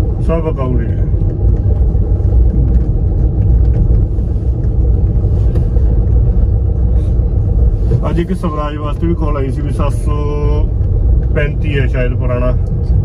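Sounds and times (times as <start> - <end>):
car driving on dirt lane: 0.0 - 13.0.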